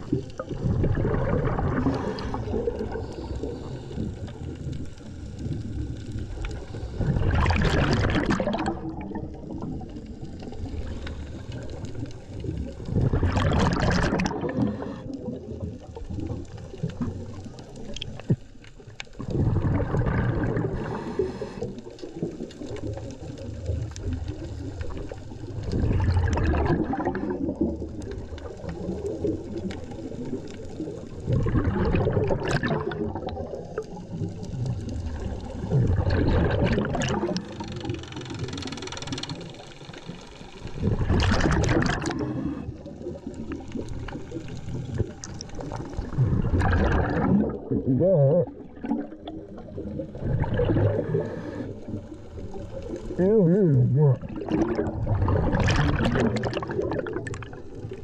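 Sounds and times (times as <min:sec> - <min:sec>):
bubbles gurgling from regulator: 0:00.0 - 0:58.0
low underwater rumble: 0:00.0 - 0:58.0.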